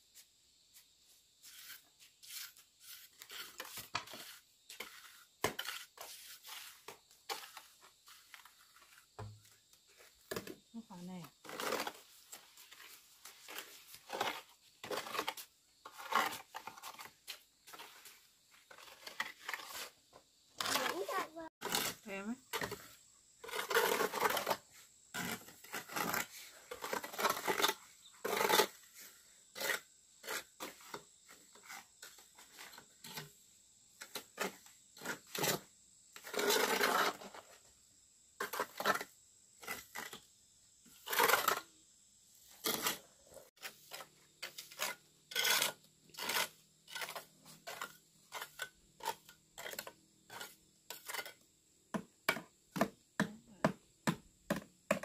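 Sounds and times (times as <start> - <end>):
hand tool scraping cement: 1.4 - 33.4, 34.0 - 37.6, 38.4 - 41.7, 42.5 - 53.0.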